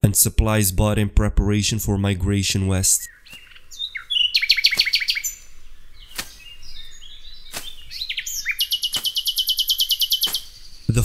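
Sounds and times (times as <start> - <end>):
songbirds chirping and trilling: 0.5 - 11.0.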